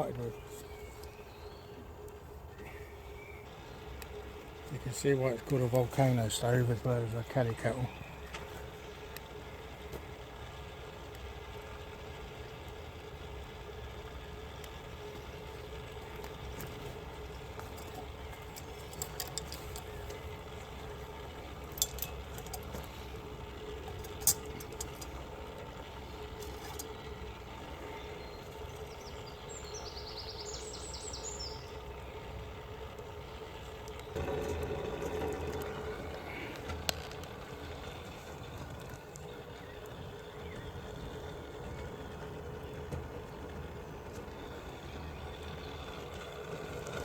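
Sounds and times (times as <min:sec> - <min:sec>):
burning twigs crackling: 0:00.4 - 0:47.0
fire draught rushing hum: 0:01.8 - 0:47.0.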